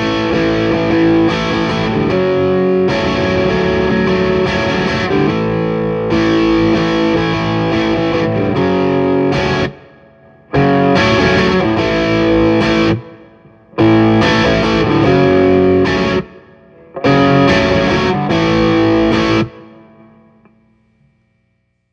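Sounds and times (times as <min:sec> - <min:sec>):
distorted electric guitar chords: 0:00.0 - 0:21.0.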